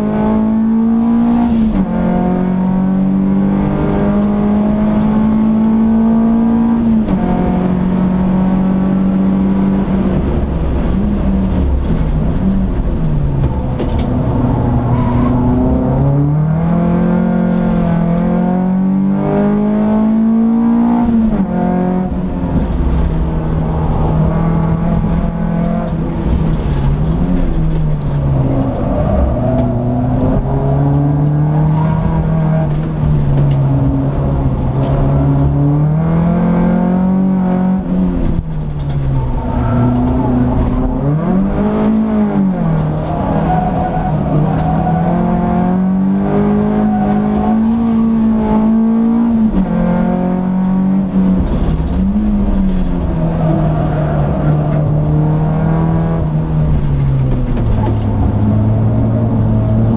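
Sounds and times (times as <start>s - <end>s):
car engine revving in cabin: 0.0s - 59.9s.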